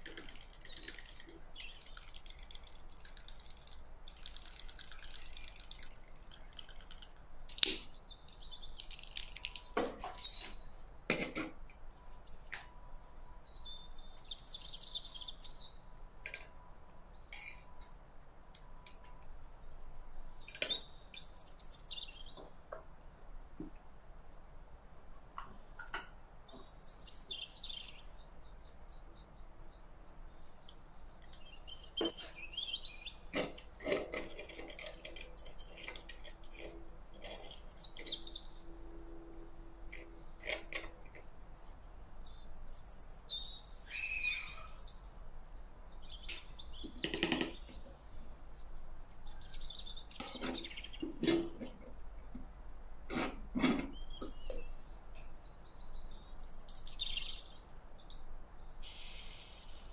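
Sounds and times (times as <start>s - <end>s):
birds chirping: 0.0s - 23.9s, 25.1s - 59.9s.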